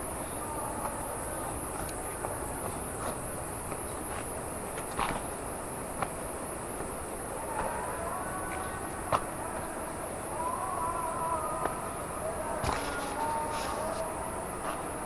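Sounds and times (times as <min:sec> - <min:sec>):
faint footsteps: 0:00.0 - 0:10.2, 0:11.5 - 0:15.0.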